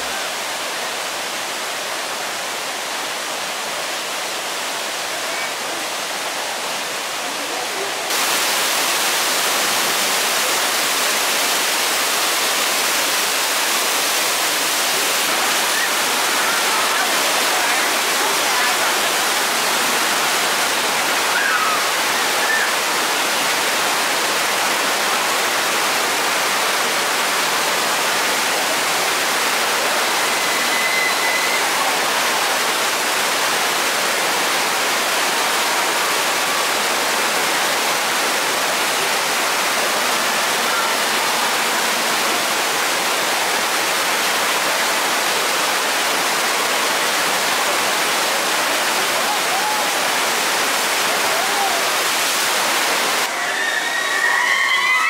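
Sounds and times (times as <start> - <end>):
white water rushing: 0.0 - 55.0.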